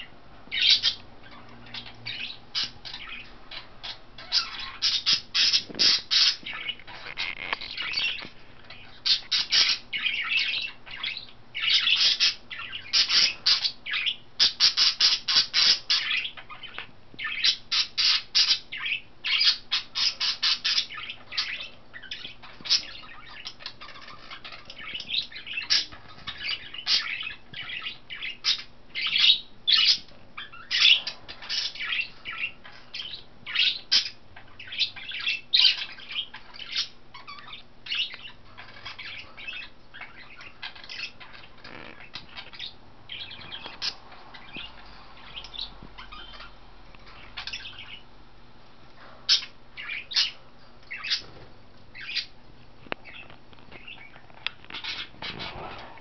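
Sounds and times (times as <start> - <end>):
budgerigars chirping and squawking: 0.0 - 48.3, 48.9 - 56.0.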